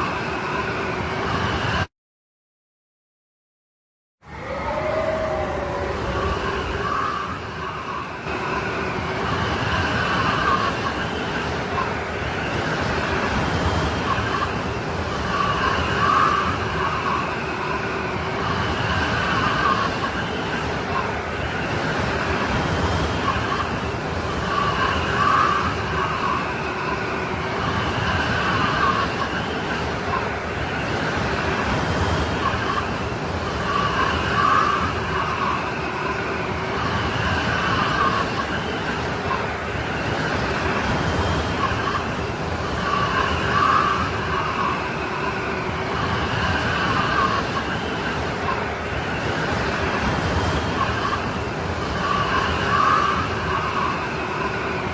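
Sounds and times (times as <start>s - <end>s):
strong whistling wind: 0.0s - 1.9s, 4.2s - 54.9s.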